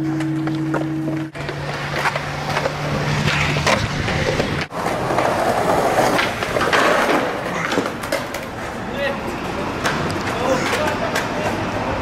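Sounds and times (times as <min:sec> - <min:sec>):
skateboard wheels rolling on concrete: 0:00.0 - 0:12.0
skateboard clacking: 0:00.7 - 0:12.0.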